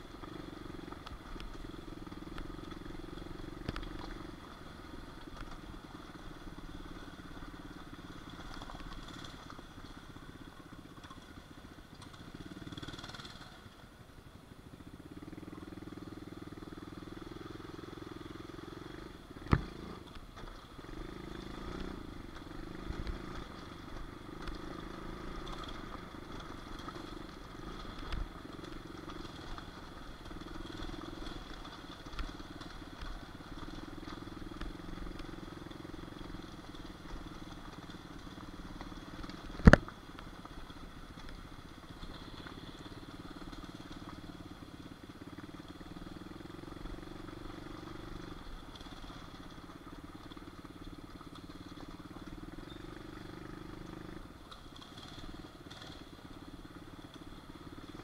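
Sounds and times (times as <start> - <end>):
small motorbike engine running: 0.0 - 13.8, 14.7 - 58.0.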